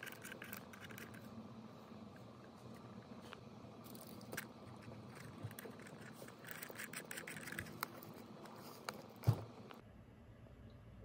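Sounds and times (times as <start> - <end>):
small clicks and scratchy rubbing: 0.0 - 1.4, 2.2 - 9.8.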